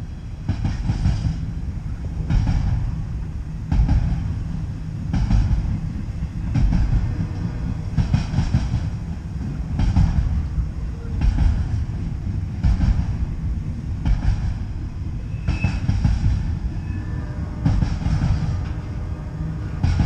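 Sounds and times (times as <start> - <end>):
freight train wheels rumbling: 0.0 - 20.0
train trucks clattering: 0.0 - 20.0.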